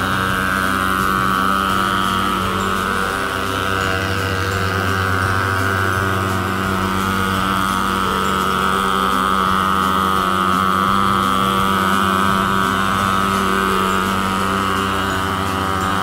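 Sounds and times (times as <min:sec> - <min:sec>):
fogging machine engine drone: 0:00.0 - 0:16.0.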